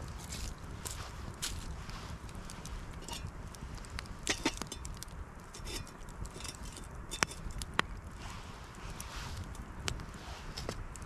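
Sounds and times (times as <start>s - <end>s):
twigs crunching and snapping: 0.0s - 11.0s.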